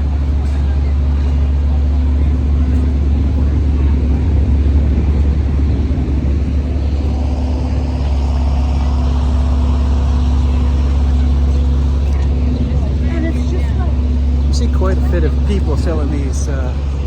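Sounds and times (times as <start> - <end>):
city street traffic rumble: 0.0 - 17.0
constant hum: 0.0 - 17.0.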